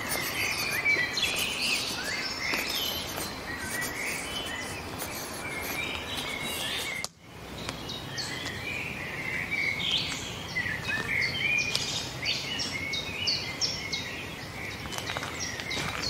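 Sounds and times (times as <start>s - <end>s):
steady background hiss: 0.0s - 15.8s
songbirds chirping: 0.0s - 16.0s.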